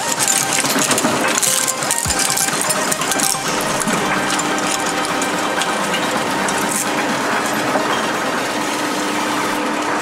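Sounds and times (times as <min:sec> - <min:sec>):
industrial shredder humming: 0:00.0 - 0:10.0.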